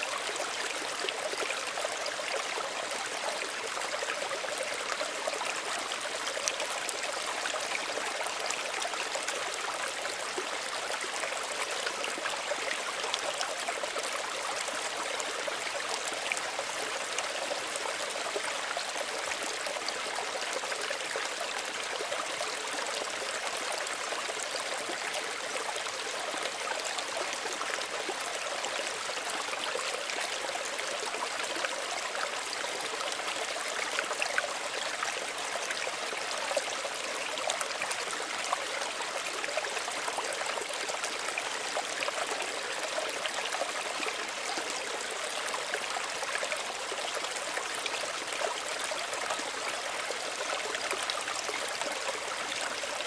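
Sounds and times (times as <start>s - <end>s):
stream burbling over stones: 0.0s - 53.0s.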